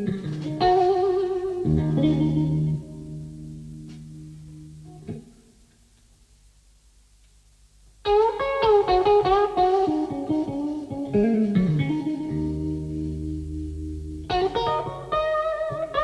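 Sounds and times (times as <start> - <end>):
blues guitar playing: 0.0 - 5.4, 8.1 - 16.0.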